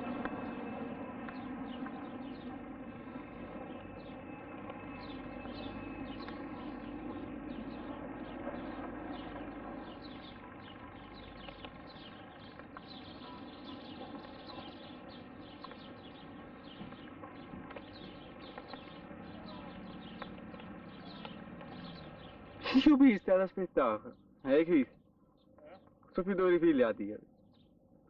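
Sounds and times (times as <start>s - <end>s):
birds chirping: 0.0s - 28.0s
distant aircraft engine drone: 0.0s - 28.0s.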